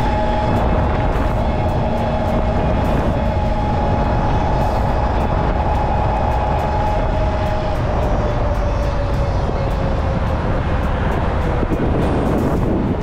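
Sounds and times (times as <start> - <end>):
electric motor whine: 0.0 - 12.3
wind rushing over microphone: 0.0 - 13.0.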